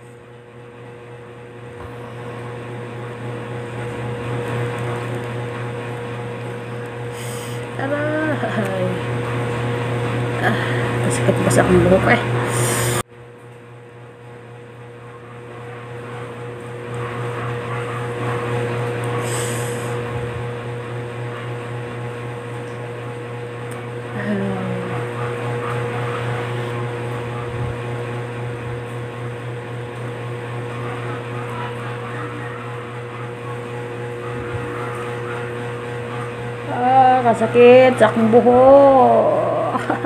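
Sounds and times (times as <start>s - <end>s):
electric fan humming: 0.0s - 40.0s.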